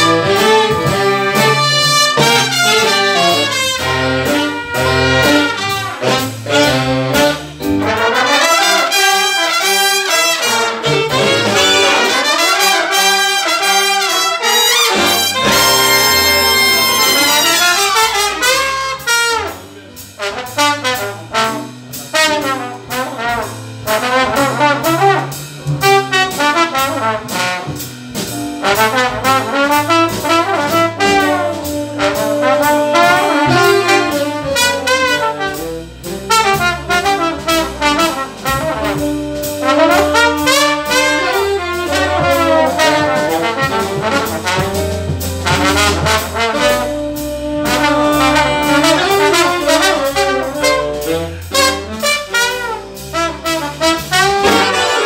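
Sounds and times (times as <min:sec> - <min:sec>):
stepping bass line: 0:00.0 - 0:08.2, 0:14.9 - 0:19.0, 0:22.8 - 0:55.0
big band playing jazz: 0:00.0 - 0:55.0
drums: 0:00.0 - 0:55.0
trombone lead line: 0:00.0 - 0:55.0.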